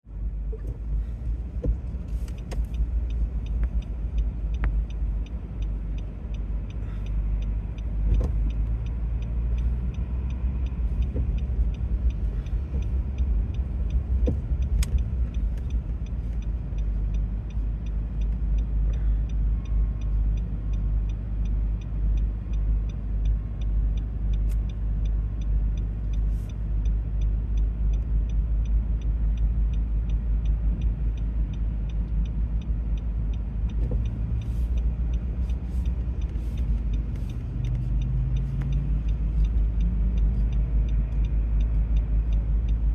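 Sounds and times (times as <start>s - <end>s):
vehicle rumble: 0.0s - 42.9s.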